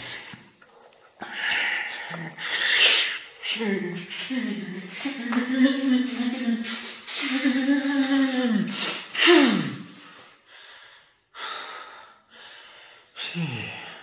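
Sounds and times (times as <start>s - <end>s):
heavy breathing: 0.0s - 14.0s.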